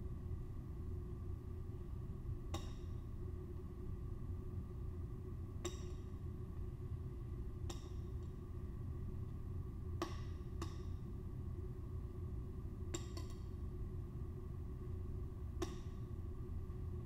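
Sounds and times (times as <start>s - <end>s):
low hum of room machinery: 0.0s - 17.0s.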